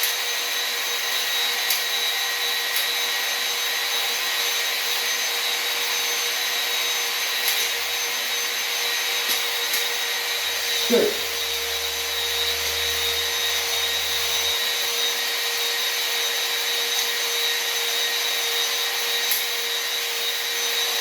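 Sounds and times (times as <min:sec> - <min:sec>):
electric drill spinning: 0:00.0 - 0:21.0.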